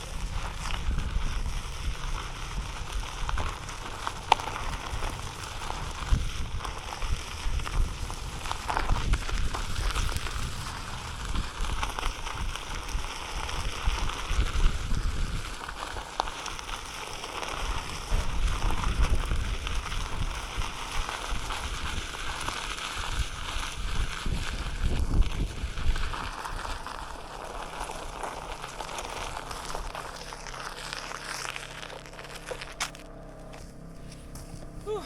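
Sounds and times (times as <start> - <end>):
low buffeting over steady rush: 0.0 - 35.0.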